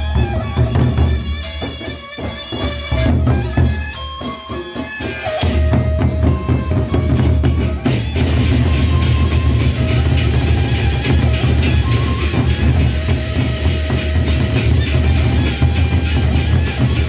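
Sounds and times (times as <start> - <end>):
barrel drums beaten with sticks: 0.0 - 17.0.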